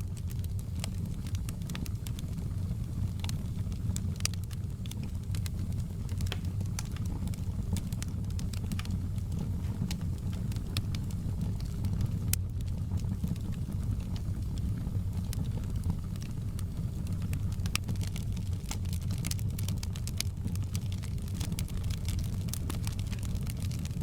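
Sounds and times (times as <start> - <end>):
fire popping and snapping: 0.0 - 24.0
fireplace fire crackling: 0.0 - 24.0
low rumble of flames: 0.0 - 24.0.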